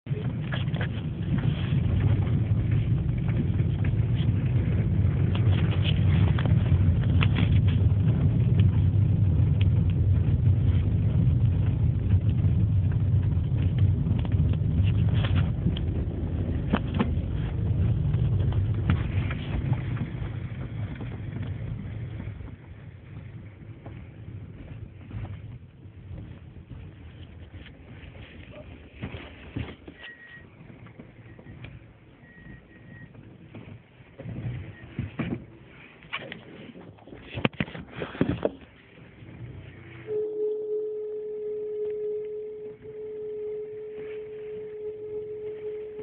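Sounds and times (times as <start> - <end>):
car reversing rumble: 0.1 - 37.2, 37.8 - 46.0.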